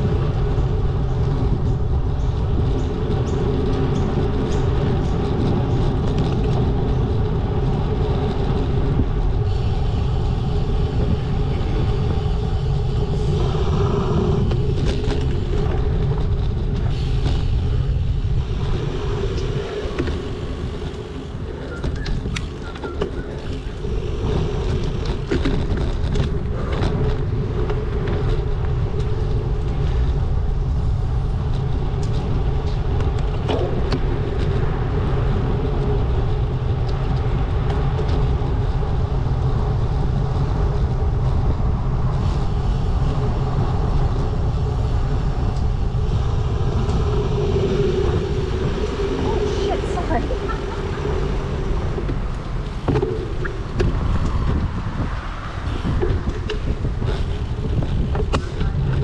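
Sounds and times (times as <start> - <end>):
road noise: 0.0 - 59.0
wind rushing: 0.0 - 59.0.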